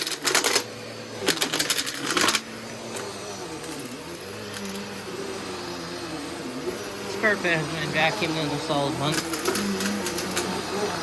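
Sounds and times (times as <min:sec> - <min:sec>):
vacuum cleaner motor humming: 0:00.0 - 0:11.0.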